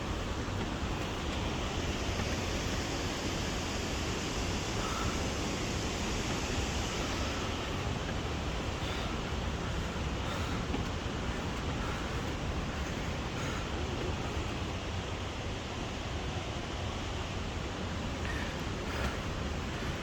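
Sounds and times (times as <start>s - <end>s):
stream and waterfall roaring: 0.0s - 20.0s.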